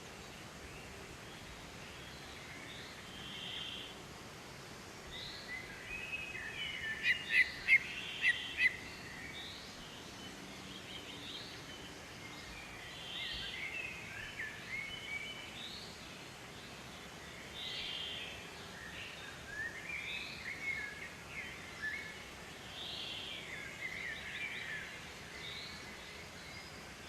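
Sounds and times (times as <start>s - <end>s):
steady background hiss: 0.0s - 27.0s
wild birds singing and calling: 0.0s - 27.0s.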